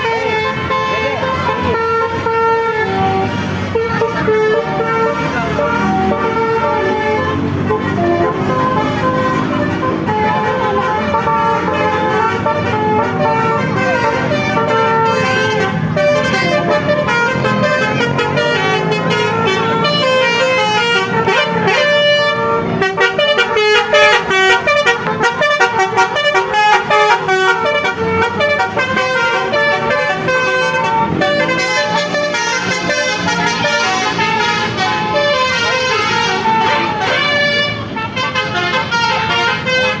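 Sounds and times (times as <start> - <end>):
multi-tone bus horn melodies: 0.0 - 40.0.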